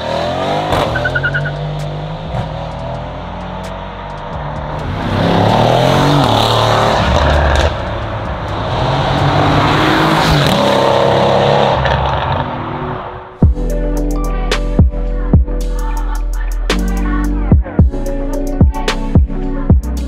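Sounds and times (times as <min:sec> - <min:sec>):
sports car engine accelerating: 0:00.0 - 0:19.8
music with heavy beat: 0:00.8 - 0:11.1, 0:13.4 - 0:20.0.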